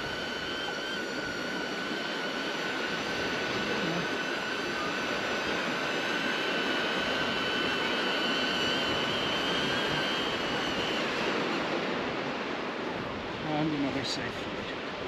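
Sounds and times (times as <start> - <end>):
drone propellers whining: 0.0 - 13.5
wind: 0.0 - 15.0.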